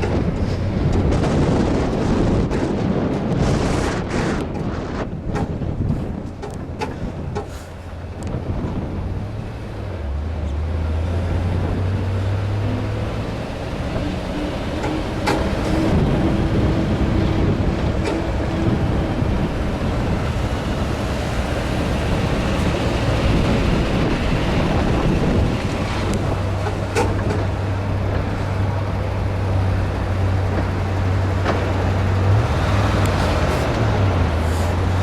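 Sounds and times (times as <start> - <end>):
road and wind noise: 0.0 - 35.0
truck engine running: 0.0 - 35.0.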